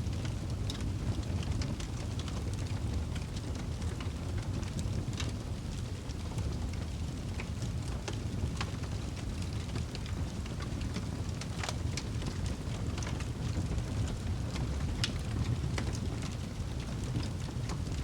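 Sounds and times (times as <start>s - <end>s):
burning logs crackling and popping: 0.0s - 18.0s
low roar of flames: 0.0s - 18.0s.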